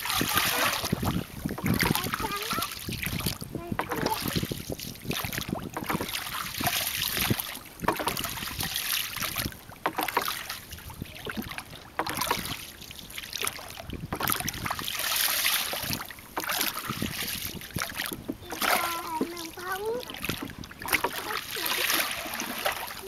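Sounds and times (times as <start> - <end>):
water splashing against boat hull: 0.0 - 23.0.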